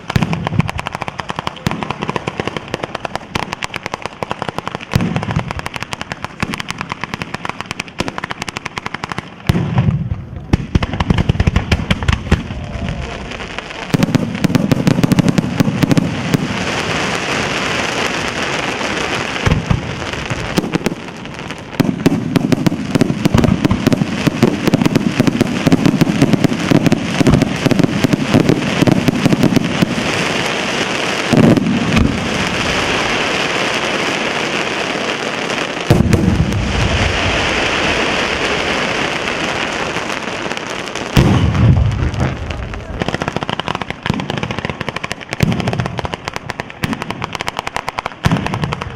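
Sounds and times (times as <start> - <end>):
fireworks crackling: 0.0 - 48.9
heavy fireworks booming: 0.0 - 48.9.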